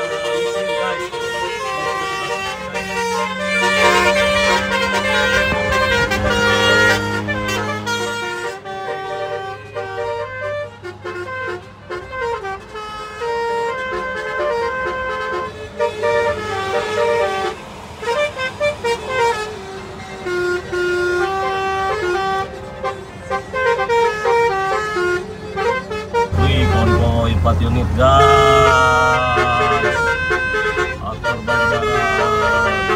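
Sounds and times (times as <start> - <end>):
musical car horn tune: 0.0 - 32.9
road and engine hum: 0.0 - 32.9.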